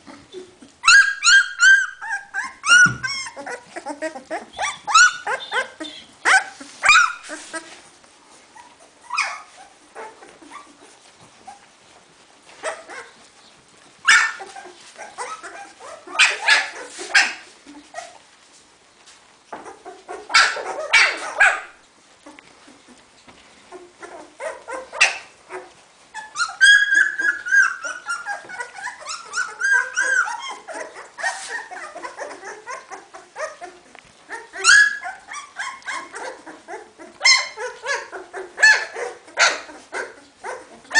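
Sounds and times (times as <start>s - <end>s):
puppies squealing and whining: 0.1s - 18.3s, 19.5s - 40.9s.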